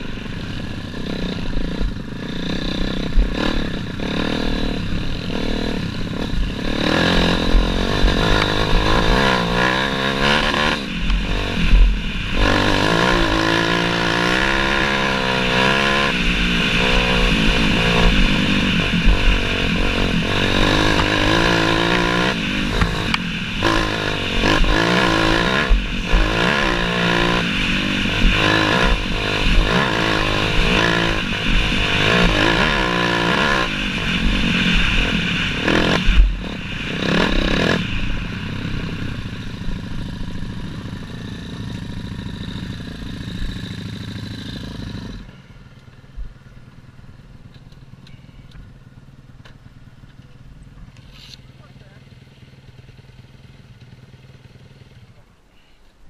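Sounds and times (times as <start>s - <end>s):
dirt bike engine revving: 0.0s - 45.5s.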